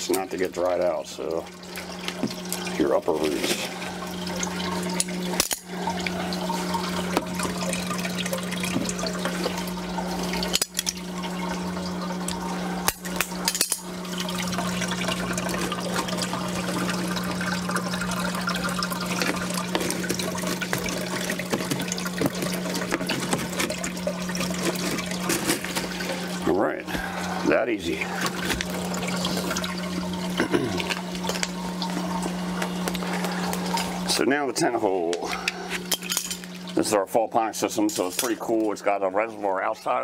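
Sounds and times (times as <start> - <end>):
water splashing and trickling: 0.0 - 40.0.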